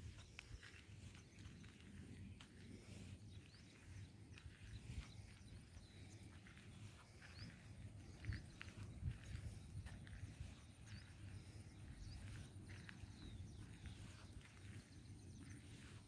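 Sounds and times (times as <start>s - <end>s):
footsteps on dirt track: 0.0s - 16.0s.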